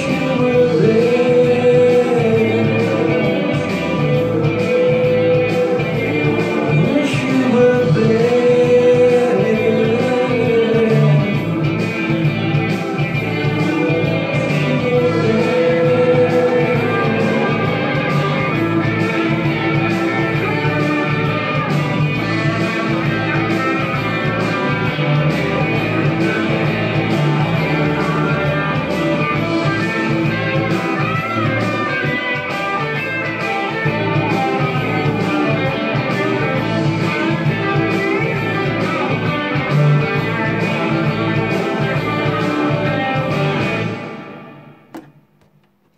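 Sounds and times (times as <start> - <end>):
guitar-led instrumental music: 0.0 - 45.9.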